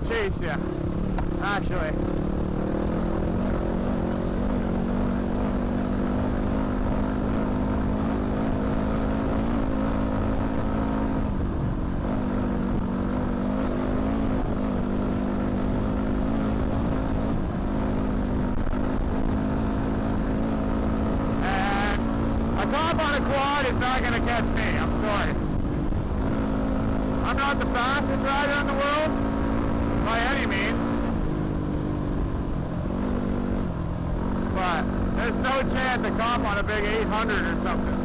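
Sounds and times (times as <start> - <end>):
dirt bike engine running: 0.0 - 38.0.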